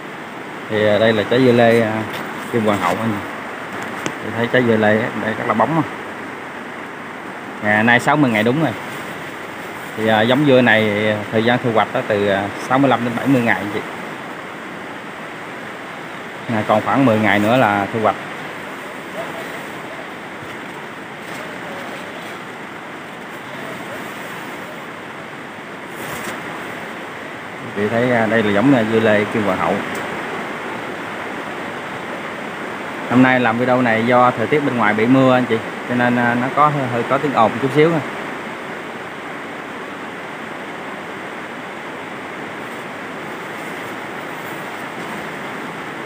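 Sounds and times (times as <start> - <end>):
rain on a plastic roof: 0.0 - 46.0.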